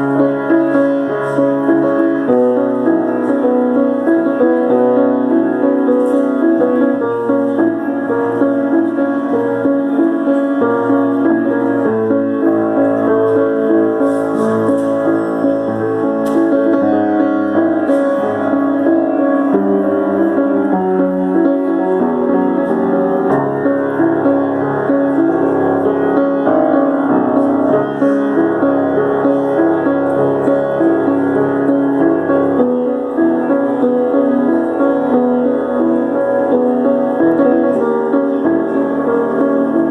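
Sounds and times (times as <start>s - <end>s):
solo piano playing chords: 0.0s - 39.9s.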